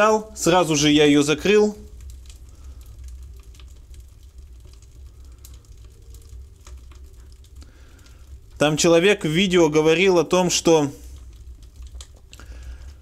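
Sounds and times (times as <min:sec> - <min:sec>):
low steady hum: 0:00.0 - 0:13.0
wood fire crackling: 0:00.0 - 0:13.0.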